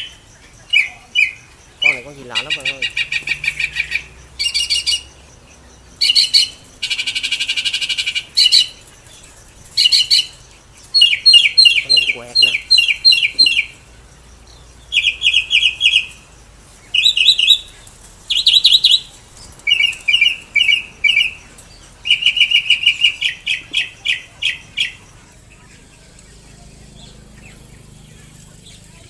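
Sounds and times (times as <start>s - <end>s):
bird shrill repeated chirps: 0.0s - 13.9s, 14.5s - 29.0s.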